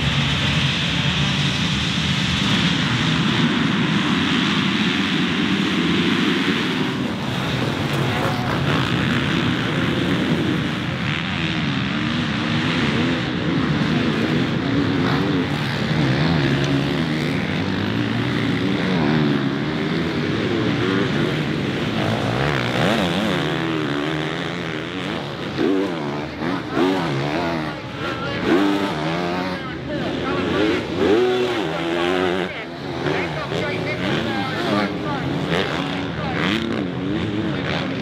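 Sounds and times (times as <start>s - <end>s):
motocross bike engines revving: 0.0s - 38.0s.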